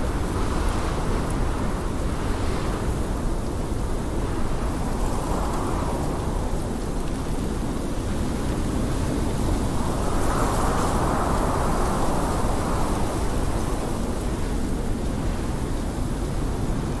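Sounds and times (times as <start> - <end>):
blizzard wind howling: 0.0 - 17.0
deep wind rumble: 0.0 - 17.0.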